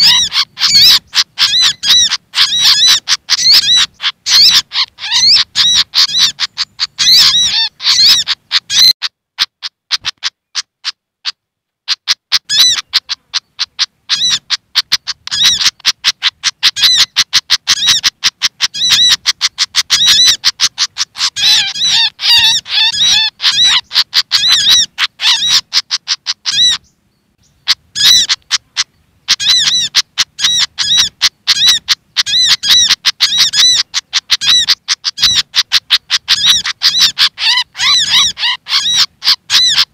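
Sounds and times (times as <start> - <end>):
bird alarm chatter: 0.0 - 39.9
bird calls: 0.0 - 39.9.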